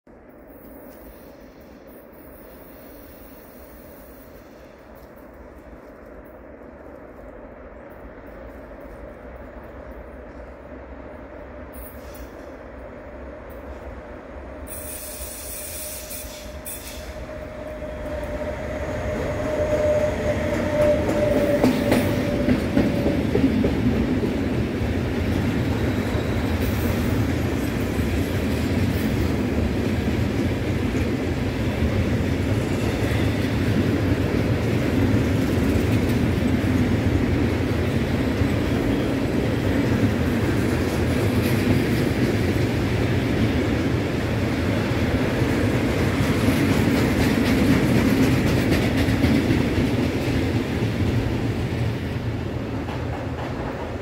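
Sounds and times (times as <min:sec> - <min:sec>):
locomotive steady tone: 0:00.1 - 0:54.0
train wheels rumbling on rails: 0:00.1 - 0:54.0.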